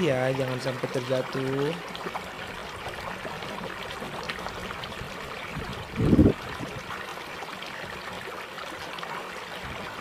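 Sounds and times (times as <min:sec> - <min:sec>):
water trickling in ditch: 0:00.0 - 0:10.0.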